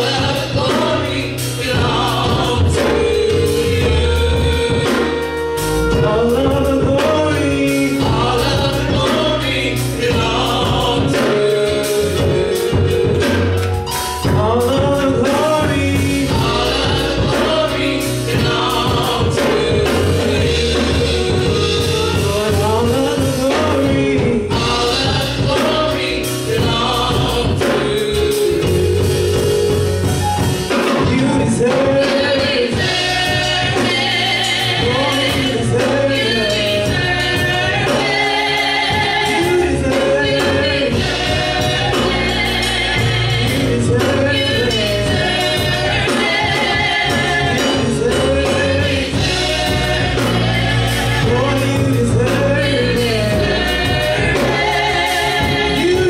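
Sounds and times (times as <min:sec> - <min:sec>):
amplified accompaniment with bass: 0:00.0 - 0:56.0
group singing gospel song: 0:00.0 - 0:56.0.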